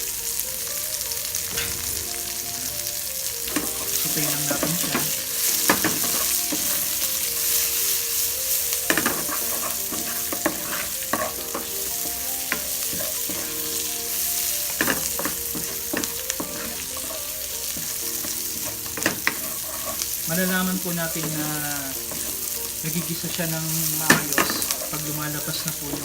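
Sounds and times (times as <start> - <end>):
food sizzling in a frying pan: 0.0 - 26.0
wooden ladle stirring a pan: 1.4 - 26.0.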